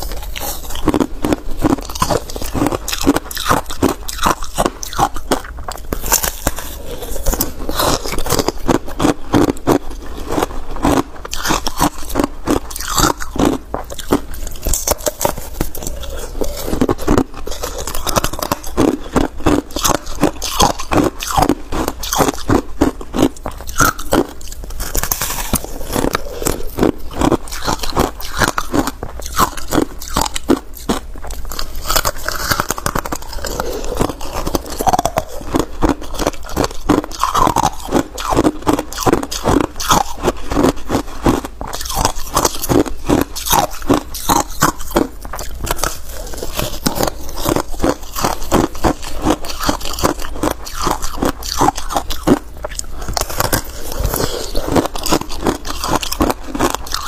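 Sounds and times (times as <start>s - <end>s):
ice being bitten and chewed: 0.0s - 57.0s.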